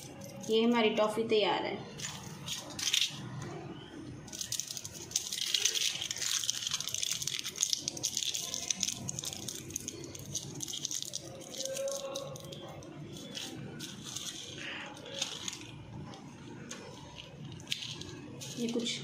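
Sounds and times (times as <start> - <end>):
aluminium foil crinkling: 1.8 - 19.0.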